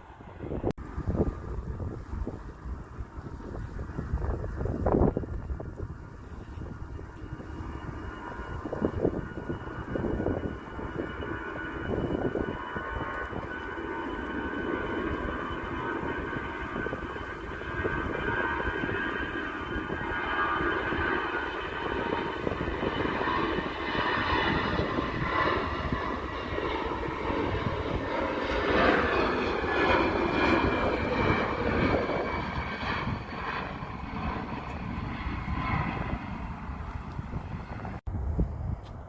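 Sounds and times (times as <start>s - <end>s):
jet airliner engines passing: 0.0s - 39.0s.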